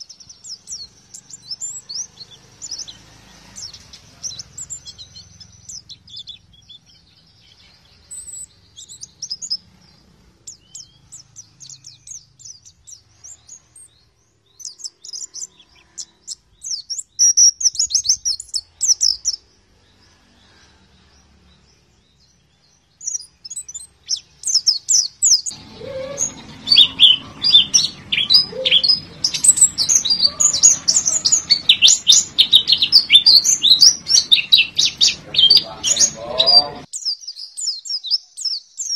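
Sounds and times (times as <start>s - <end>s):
bird twittering chirps: 0.0s - 38.9s.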